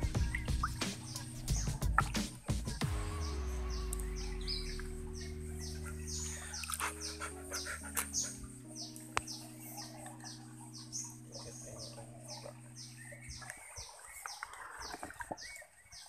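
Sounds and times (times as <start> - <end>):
water splashing: 0.0 - 7.3, 9.7 - 16.0
soft music of low chords: 0.0 - 15.9.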